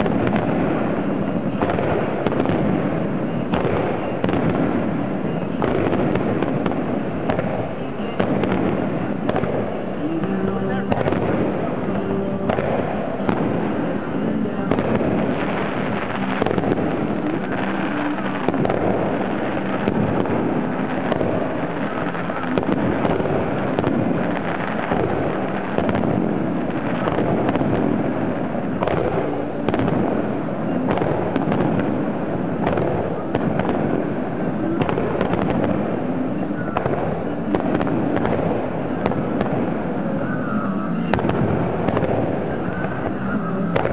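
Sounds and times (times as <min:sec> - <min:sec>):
fireworks launches and bursts: 0:00.0 - 0:43.9.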